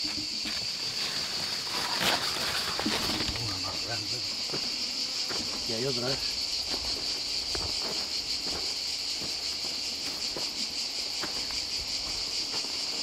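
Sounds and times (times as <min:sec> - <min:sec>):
footsteps on dirt path: 0:00.0 - 0:13.0
insects chirring: 0:00.0 - 0:13.0.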